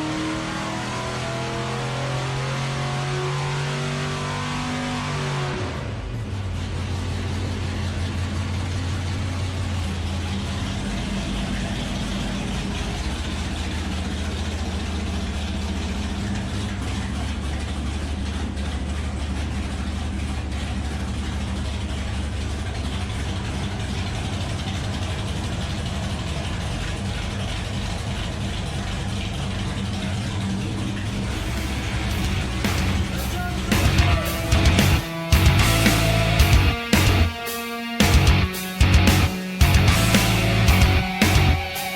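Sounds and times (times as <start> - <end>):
car engine idling: 5.8 - 41.9.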